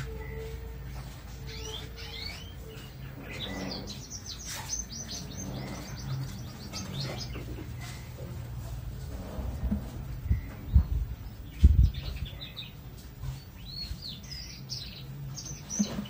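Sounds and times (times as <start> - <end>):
small birds singing: 0.0 - 16.0.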